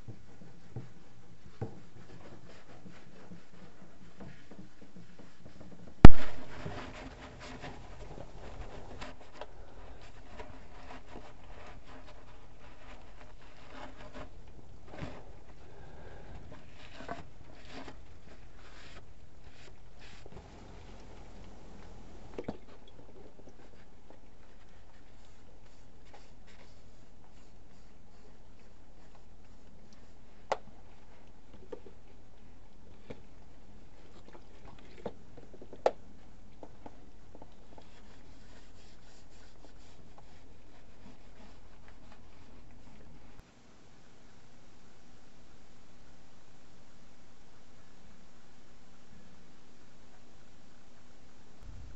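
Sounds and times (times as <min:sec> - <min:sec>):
low background hiss: 0:00.0 - 0:51.9
low background hum: 0:00.0 - 0:51.9.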